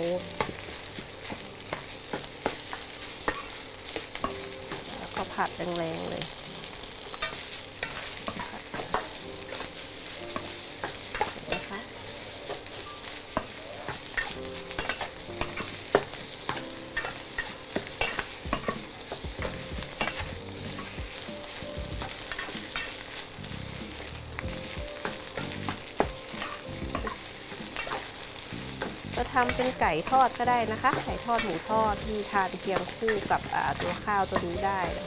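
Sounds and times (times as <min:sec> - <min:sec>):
rice sizzling: 0:00.0 - 0:35.0
spatula scraping a wok: 0:00.4 - 0:35.0.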